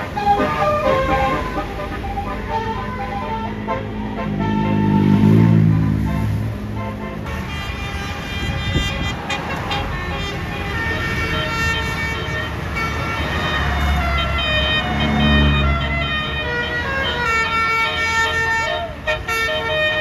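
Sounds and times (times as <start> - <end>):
bus engine running: 0.0 - 20.0
multi-tone air horn playing a tune: 0.0 - 20.0.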